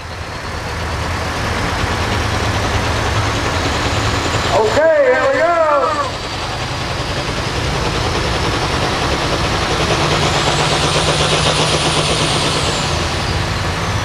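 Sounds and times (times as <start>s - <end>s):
tractor diesel engine running hard: 0.0s - 14.0s.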